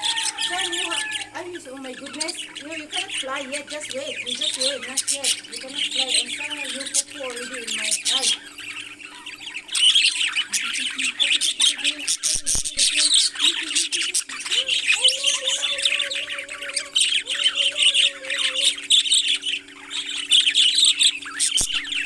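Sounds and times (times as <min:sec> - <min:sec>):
parrots chirping and squawking: 0:00.0 - 0:22.0
steady low hum: 0:00.0 - 0:22.0.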